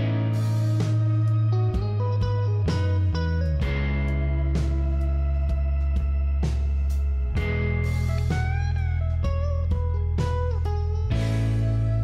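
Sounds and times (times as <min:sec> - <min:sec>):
plucked guitar melody: 0:00.0 - 0:12.0
sustained low bass: 0:00.0 - 0:12.0.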